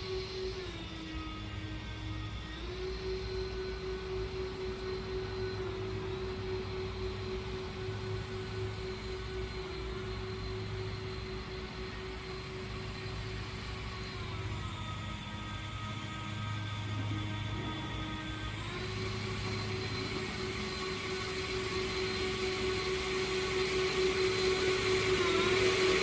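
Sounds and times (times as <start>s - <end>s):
leaf blower running: 0.0s - 26.0s.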